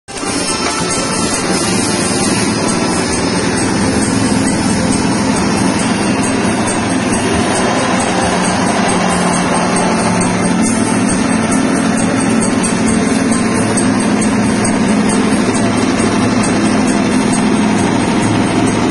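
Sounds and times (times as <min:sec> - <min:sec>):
small petrol engine running: 0:00.1 - 0:18.9.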